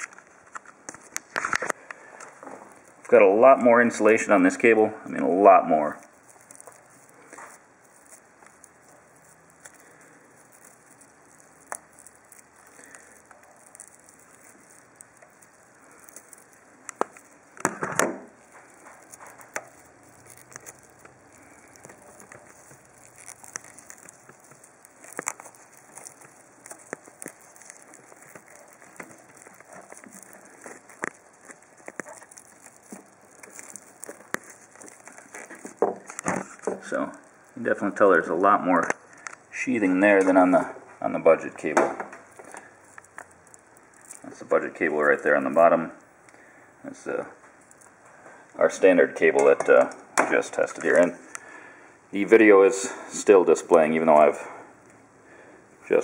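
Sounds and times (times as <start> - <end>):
tearing rustle: 0.0 - 49.4
cable sheathing crinkling: 0.0 - 56.0.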